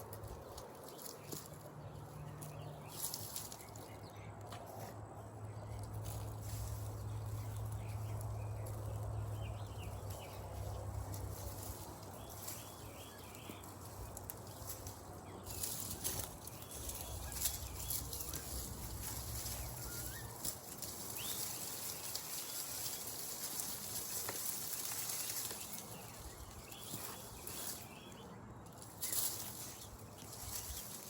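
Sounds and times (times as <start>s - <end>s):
dry plants rustling and crackling: 0.0s - 31.0s.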